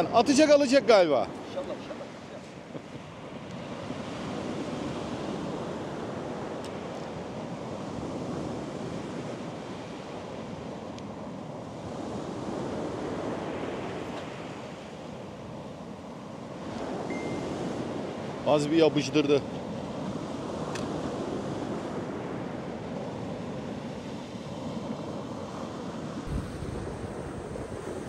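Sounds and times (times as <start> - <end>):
surf breaking on a beach: 0.0 - 28.0.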